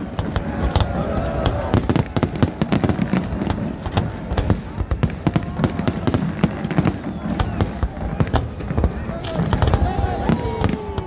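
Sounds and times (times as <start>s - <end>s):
fireworks banging and crackling: 0.0s - 11.0s.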